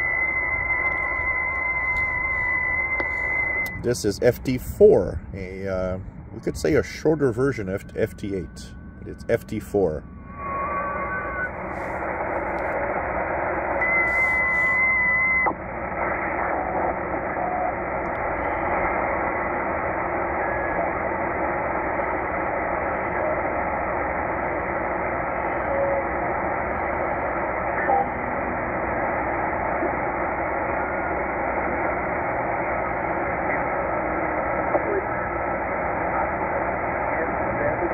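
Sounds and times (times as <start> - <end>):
radio signal whistles: 0.0 - 4.3, 5.7 - 37.4
radio static hiss: 0.0 - 37.9.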